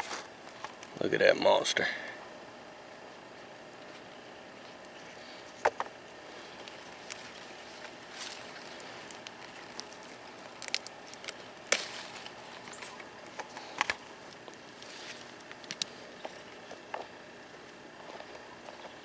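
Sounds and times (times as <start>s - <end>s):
pepper plants clicking and rustling: 0.0s - 1.8s, 3.8s - 19.0s
steady outdoor hiss: 0.0s - 19.0s.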